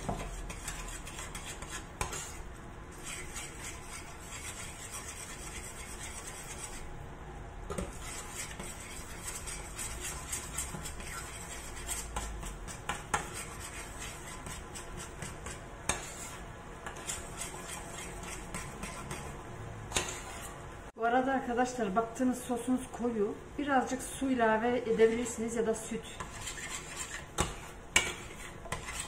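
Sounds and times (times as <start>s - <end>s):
metal spoon scraping saucepan: 0.0s - 6.9s, 7.8s - 20.6s, 24.9s - 29.0s.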